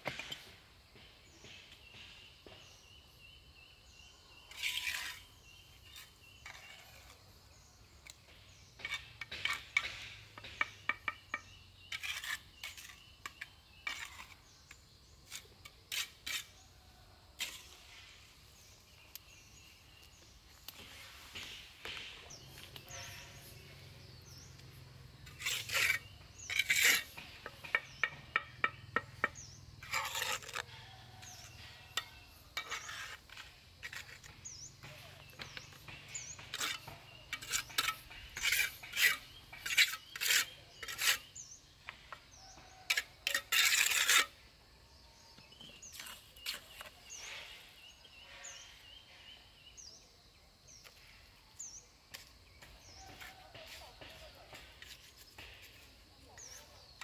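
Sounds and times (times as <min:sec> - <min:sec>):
bird chirping: 0:00.9 - 0:57.0.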